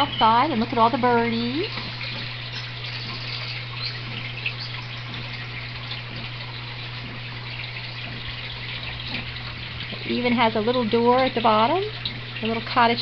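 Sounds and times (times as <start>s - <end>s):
low steady hum: 0.0s - 13.0s
water trickling: 0.0s - 13.0s.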